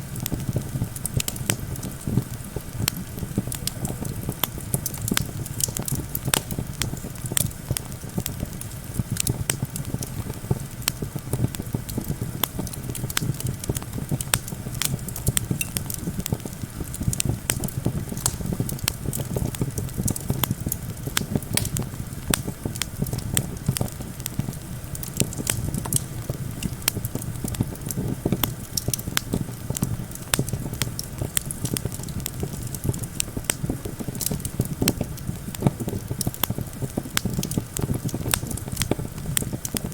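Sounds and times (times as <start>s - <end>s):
campfire crackling and popping: 0.0s - 39.9s
low rumble of wind: 0.0s - 39.9s.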